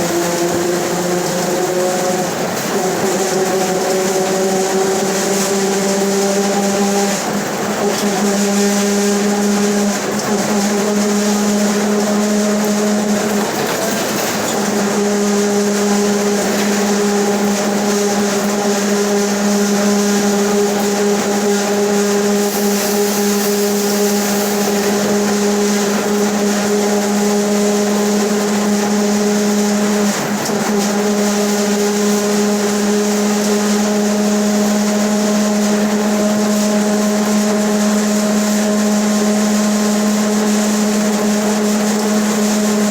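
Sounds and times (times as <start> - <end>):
bus differential droning: 0.0 - 42.9
bus running noise: 0.0 - 42.9.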